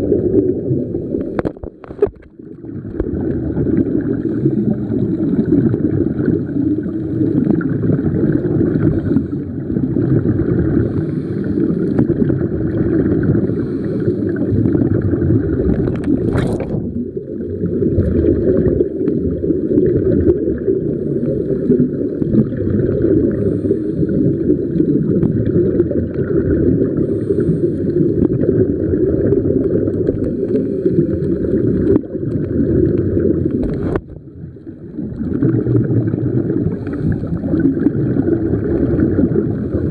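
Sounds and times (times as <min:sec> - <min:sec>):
muffled underwater rushing water: 0:00.0 - 0:39.9.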